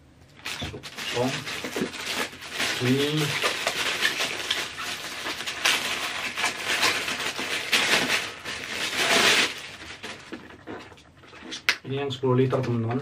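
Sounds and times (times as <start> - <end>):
plastic bag crinkling: 0.4 - 11.6.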